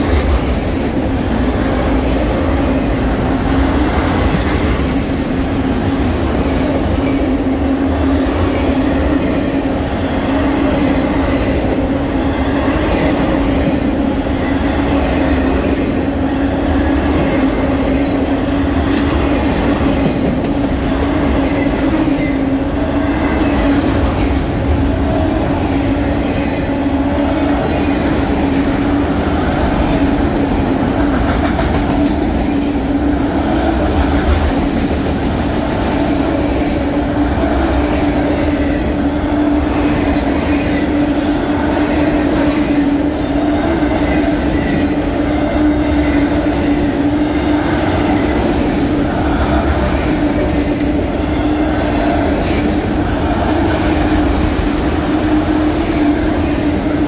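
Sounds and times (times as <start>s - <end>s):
freight train wheels rumbling: 0.0s - 57.0s
rail cars clattering: 0.0s - 57.0s.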